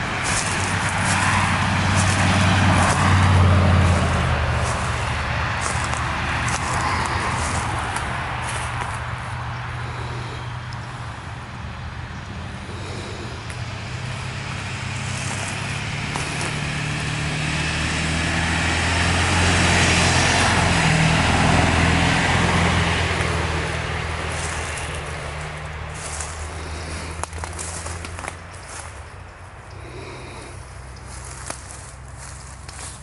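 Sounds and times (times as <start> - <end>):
vehicle driving past: 0.0 - 33.0.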